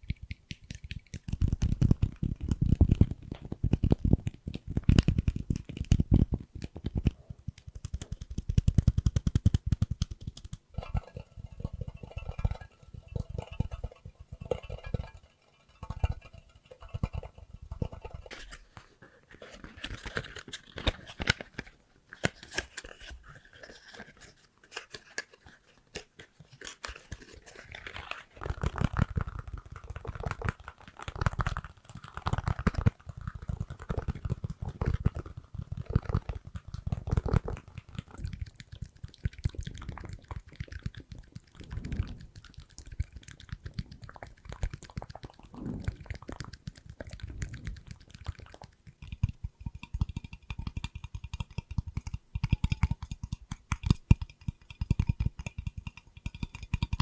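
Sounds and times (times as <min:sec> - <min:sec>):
small clicks taps and crackles: 0:00.0 - 0:57.0.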